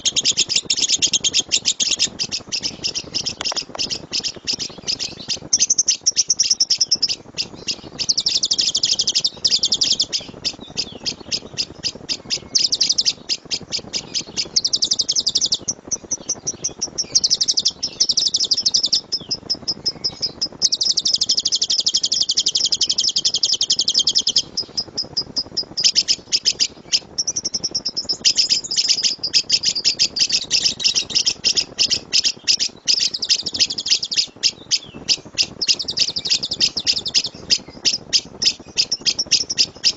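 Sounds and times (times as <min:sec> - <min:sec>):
lovebird chirping and trilling: 0:00.0 - 0:39.9.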